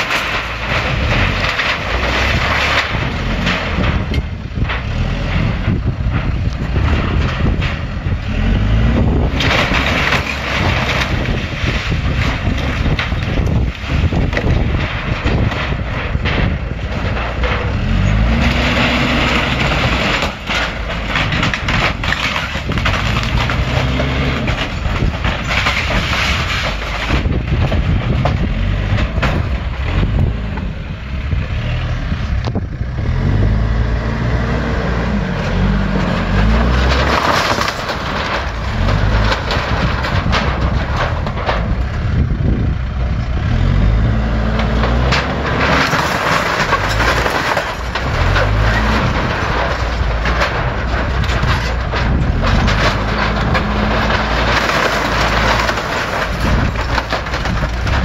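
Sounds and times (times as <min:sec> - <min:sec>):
boards breaking: 0:00.0 - 0:31.0, 0:34.2 - 0:58.0
diesel engine working hard: 0:00.0 - 0:58.0
sheet metal crumpling: 0:00.0 - 0:58.0.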